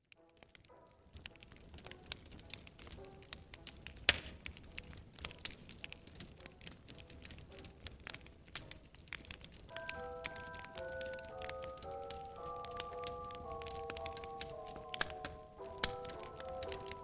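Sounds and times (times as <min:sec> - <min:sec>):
faint music notes: 0:00.0 - 0:17.0
wood fire crackling and popping: 0:00.0 - 0:17.0.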